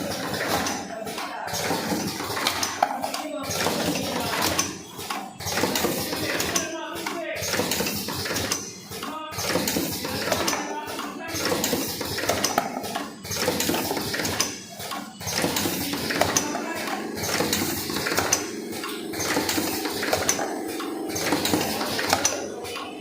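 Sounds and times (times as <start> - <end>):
machine clattering with metallic clicks: 0.0 - 23.0
steady machine hum: 0.0 - 23.0.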